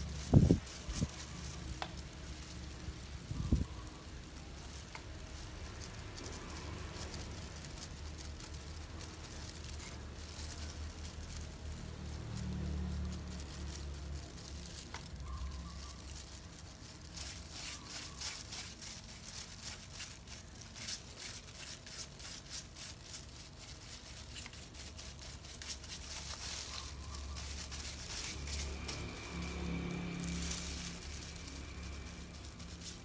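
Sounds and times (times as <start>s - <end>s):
brush scraping through hair: 0.0s - 33.0s
plastic gloves rustling: 0.0s - 33.0s.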